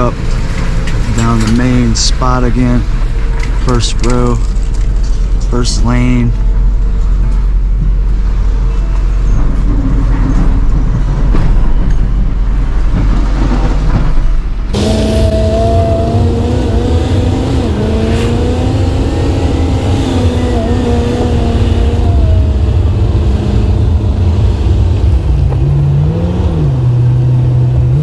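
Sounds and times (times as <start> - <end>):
truck engine driving slowly: 0.0 - 28.0.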